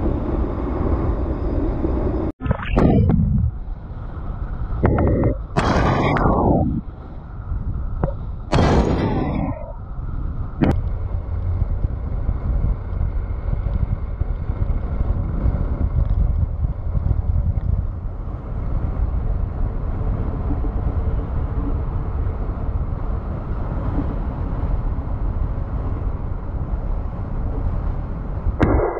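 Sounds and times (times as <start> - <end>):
road rumble: 0.0 - 28.9
wind noise: 0.0 - 28.9.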